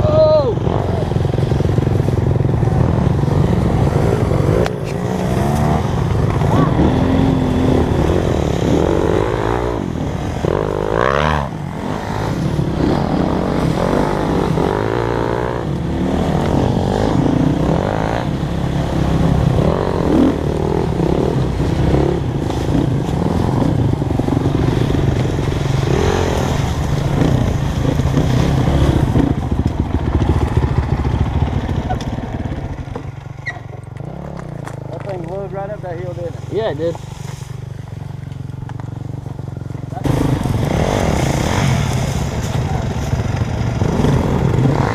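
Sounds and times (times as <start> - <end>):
dirt bike engine revving: 0.5 - 36.8, 38.6 - 44.9.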